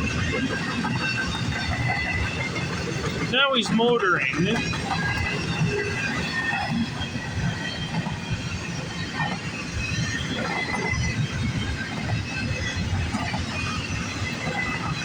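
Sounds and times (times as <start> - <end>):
high wheel squeals: 0.0 - 15.0
train wheels rumbling on rails: 0.0 - 15.0.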